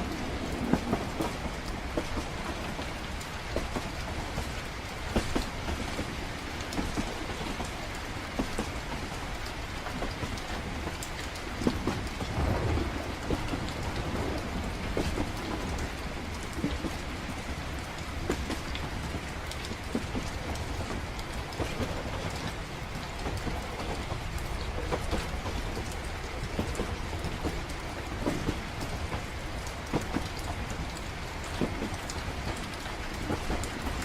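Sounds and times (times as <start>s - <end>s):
rolling thunder: 0.0s - 7.6s, 11.4s - 34.0s
low train rumble: 0.0s - 34.0s
steady rain: 0.0s - 34.0s.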